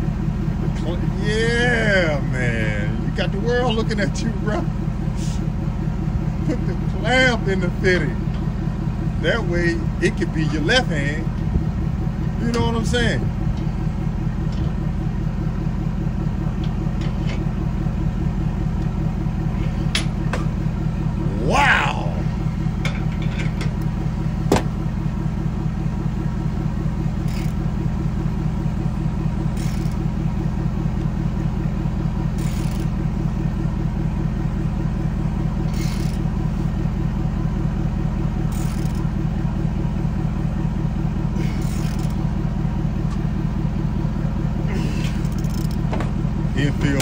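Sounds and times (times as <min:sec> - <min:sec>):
engine idling: 0:00.0 - 0:47.0.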